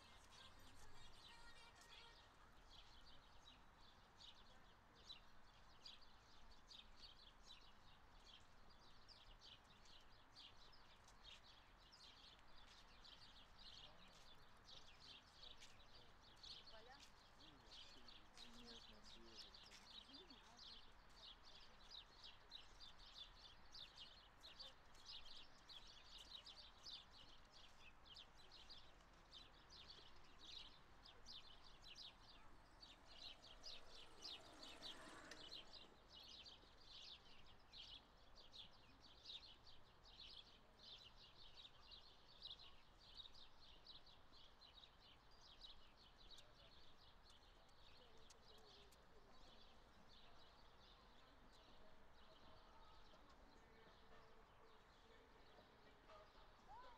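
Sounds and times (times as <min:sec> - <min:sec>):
outdoor background noise: 0:00.0 - 0:56.9
songbirds chirping: 0:00.0 - 0:56.9.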